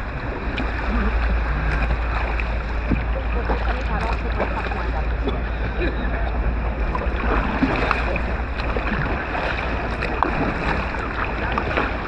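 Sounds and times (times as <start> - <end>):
water splashing around kayak: 0.0 - 12.0
wind rumble on microphone: 0.0 - 12.0.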